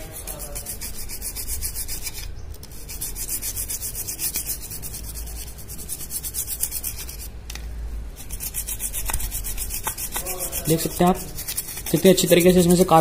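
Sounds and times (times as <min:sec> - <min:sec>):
brush scrubbing circuit board: 0:00.0 - 0:07.4, 0:08.2 - 0:13.0.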